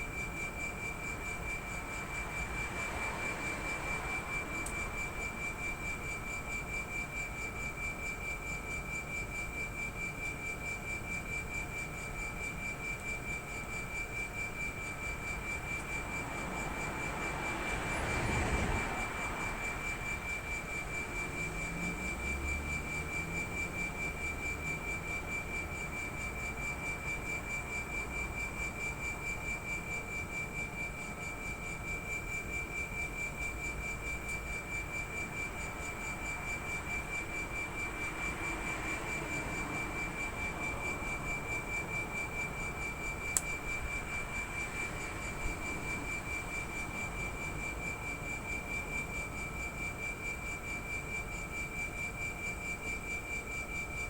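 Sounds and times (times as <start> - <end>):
compressor high-pitched whine: 0.0 - 54.0.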